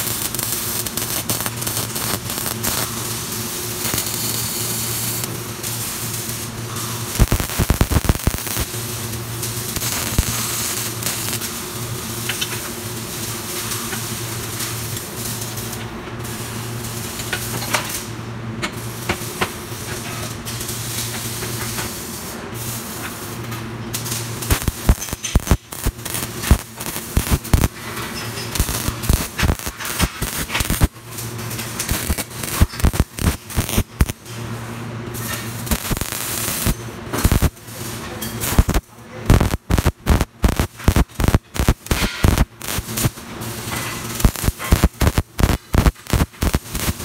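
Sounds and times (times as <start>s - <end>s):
welding arc crackling: 0.0s - 18.1s, 20.6s - 47.0s
steady hiss and low hum: 0.0s - 47.0s.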